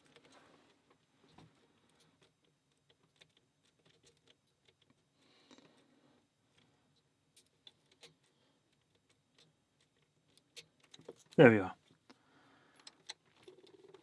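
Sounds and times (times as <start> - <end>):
soft rustle of handling: 0.0 - 14.0.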